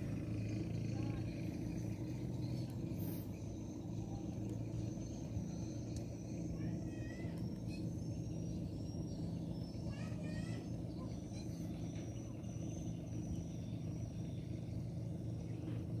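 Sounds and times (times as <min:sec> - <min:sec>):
steady low engine hum: 0:00.0 - 0:16.0.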